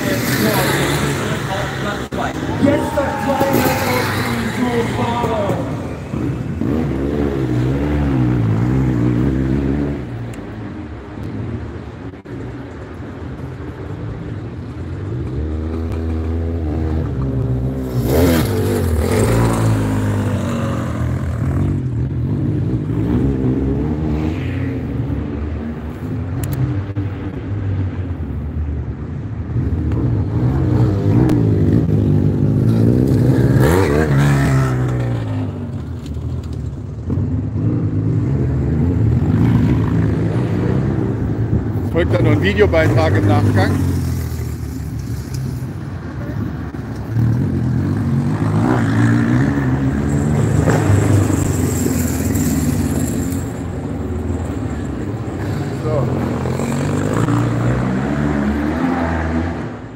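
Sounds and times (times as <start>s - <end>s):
motorcycle engines revving: 0.0s - 59.9s.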